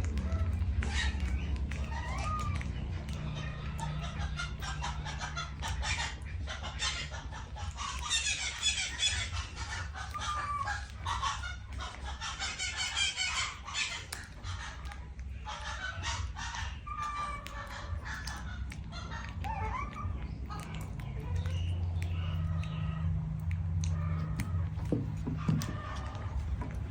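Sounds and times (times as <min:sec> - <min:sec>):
high-pitched animal calls: 0:00.0 - 0:26.9
steady low hum: 0:00.0 - 0:26.9.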